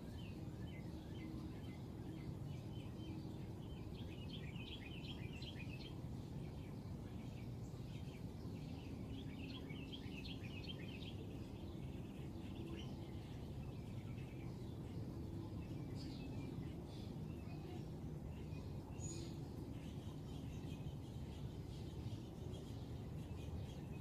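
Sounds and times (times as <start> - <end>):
low background hum: 0.0 - 24.0
small birds twittering: 0.0 - 24.0.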